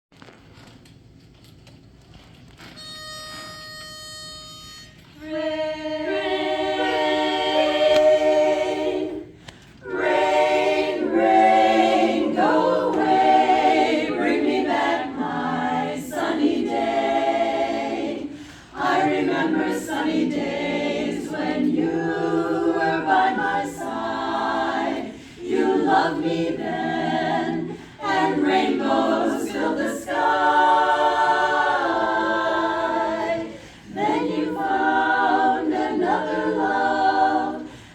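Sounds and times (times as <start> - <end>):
a cappella group singing harmony: 5.2 - 37.9.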